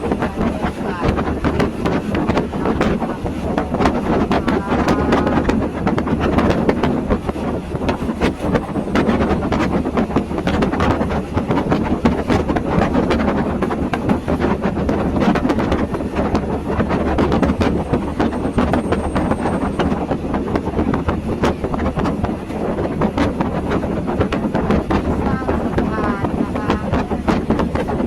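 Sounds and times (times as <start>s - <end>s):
train rumbling along track: 0.0s - 28.0s
wheels clacking on rails: 0.0s - 28.0s.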